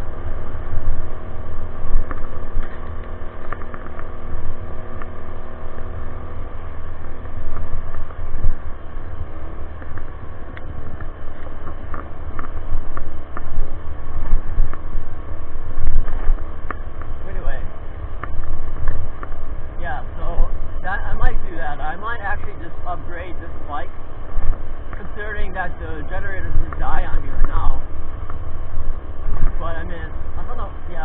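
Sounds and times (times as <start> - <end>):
wind rumble on microphone: 0.0 - 31.0.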